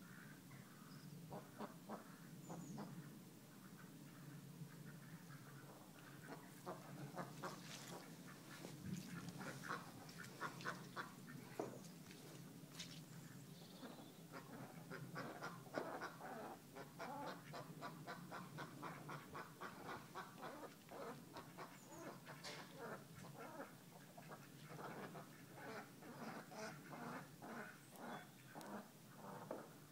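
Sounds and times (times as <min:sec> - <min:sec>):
ducks quacking faintly: 0:00.0 - 0:29.9.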